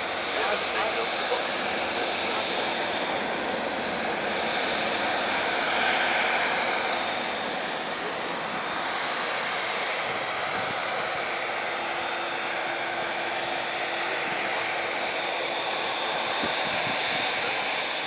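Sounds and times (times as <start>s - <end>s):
jet engines whining at low power: 0.0s - 18.0s.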